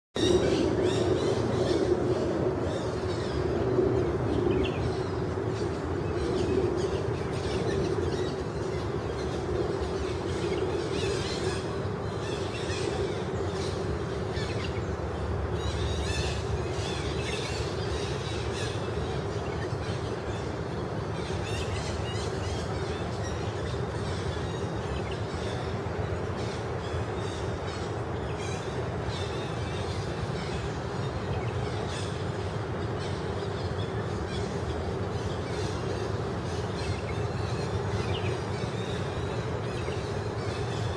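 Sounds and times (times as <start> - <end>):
birds chirping: 0.2 - 40.9
steady low hum: 0.2 - 40.9.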